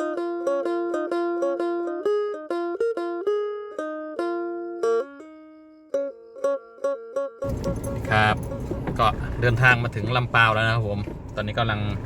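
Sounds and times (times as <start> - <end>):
plucked string instrument melody: 0.0 - 10.3.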